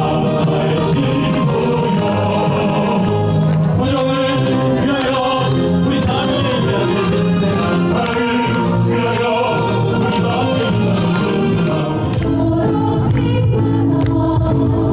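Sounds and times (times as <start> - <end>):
choir singing: 0.0 - 14.9.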